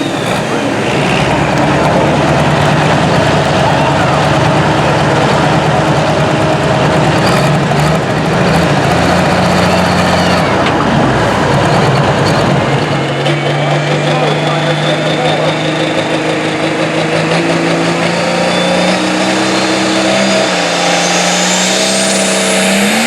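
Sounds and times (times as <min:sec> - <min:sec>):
tractor diesel engine running hard: 0:00.0 - 0:23.0.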